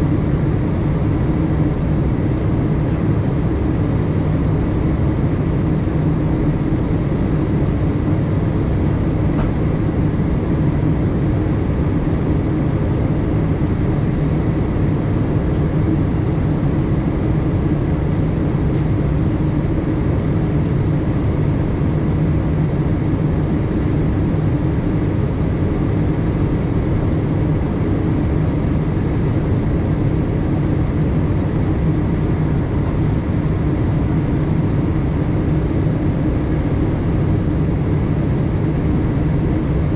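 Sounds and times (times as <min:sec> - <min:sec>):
airplane cabin engine hum: 0:00.0 - 0:39.9.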